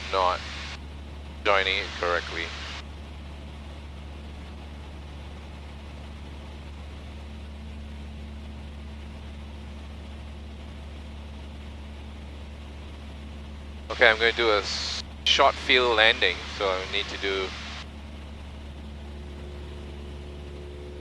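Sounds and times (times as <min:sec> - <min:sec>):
aircraft engine and propeller drone: 0:00.0 - 0:21.0.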